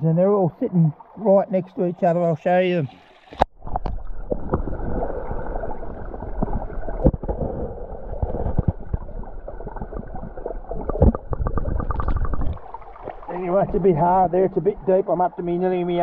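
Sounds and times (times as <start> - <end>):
underwater creek churning: 0.0 - 16.0.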